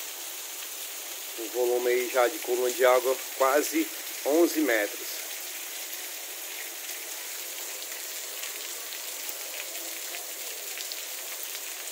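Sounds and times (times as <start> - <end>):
steady rain hiss: 0.0 - 11.9.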